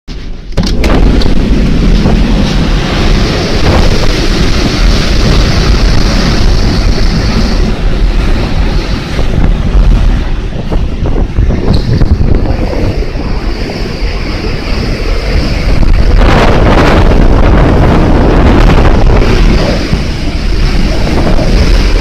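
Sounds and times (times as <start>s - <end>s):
strong wind buffeting microphone: 0.1s - 22.0s.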